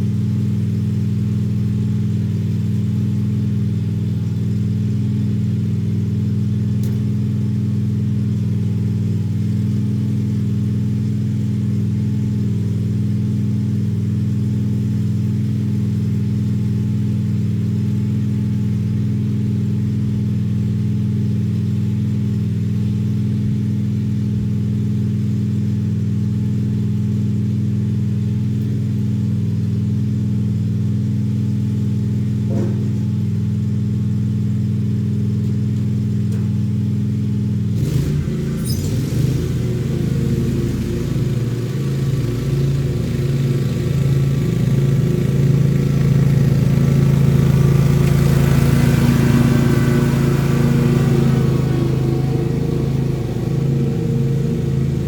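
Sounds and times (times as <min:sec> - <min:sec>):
lawn mower engine droning: 0:00.0 - 0:55.0.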